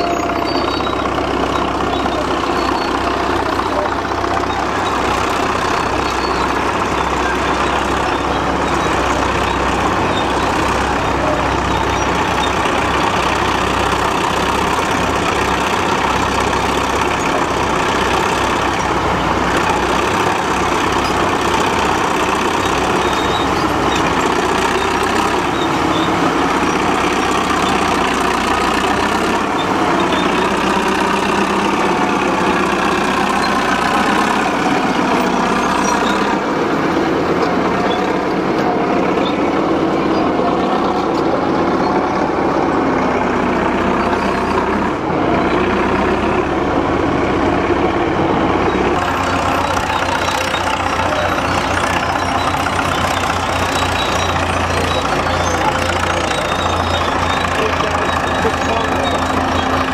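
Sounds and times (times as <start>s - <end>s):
diesel crawler tractors running: 0.0s - 59.9s.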